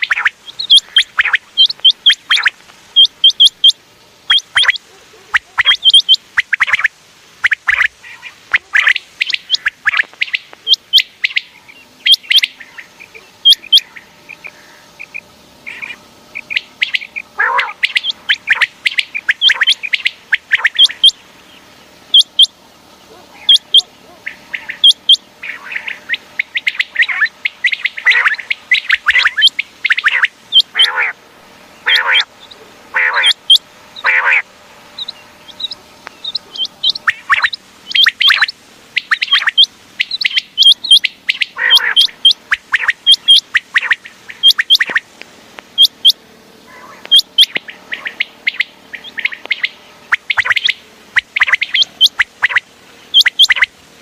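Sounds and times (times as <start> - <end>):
quails calling: 0.0 - 53.8.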